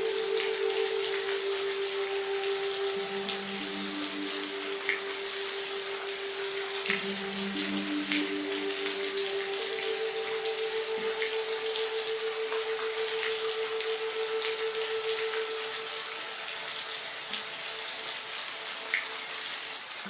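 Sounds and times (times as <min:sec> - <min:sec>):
ambient music pad low note: 0:00.0 - 0:19.4
individual raindrops: 0:00.0 - 0:20.0
rain hiss: 0:00.0 - 0:20.0.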